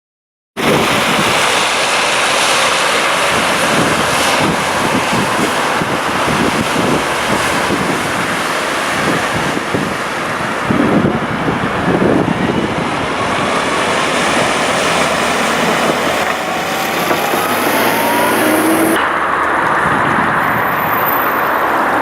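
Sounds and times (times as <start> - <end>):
wind buffeting microphone: 0.6 - 21.2
wind and waves rushing: 0.6 - 22.0.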